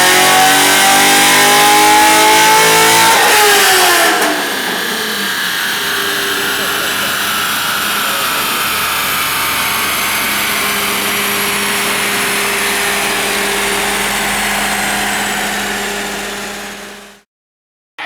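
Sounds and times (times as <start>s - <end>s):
car engine running loudly: 0.0s - 17.2s.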